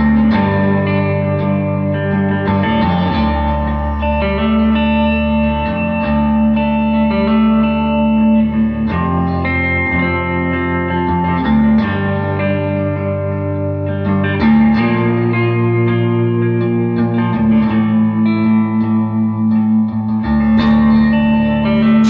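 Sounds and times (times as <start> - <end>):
electric guitar chords: 0.0 - 22.0.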